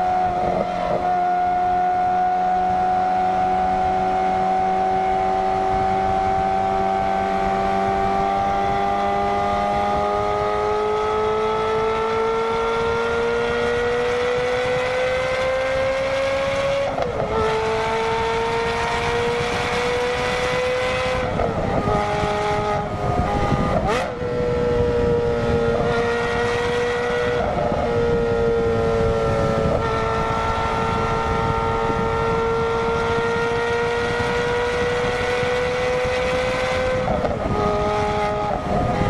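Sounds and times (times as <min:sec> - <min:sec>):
car engine howling: 0:00.0 - 0:39.0.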